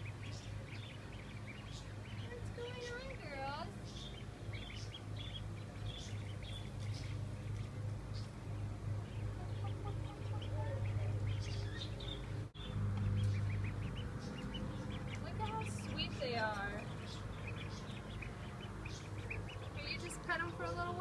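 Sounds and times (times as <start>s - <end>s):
ducklings peeping: 0.0s - 21.0s
low hum: 0.0s - 21.0s.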